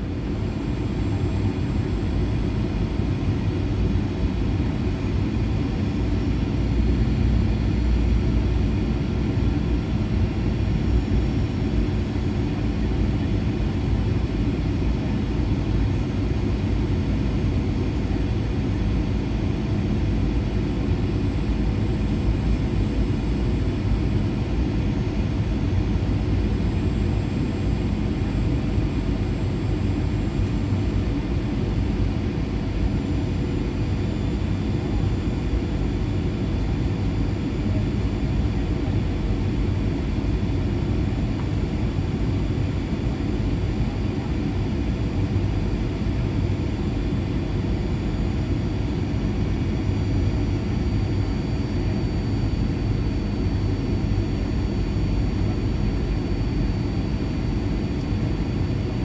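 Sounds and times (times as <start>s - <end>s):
airplane engine and airflow rumble: 0.0s - 59.0s.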